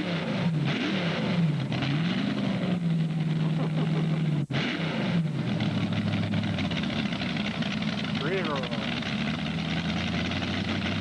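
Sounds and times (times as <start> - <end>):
tractor engine running hard: 0.0 - 11.0.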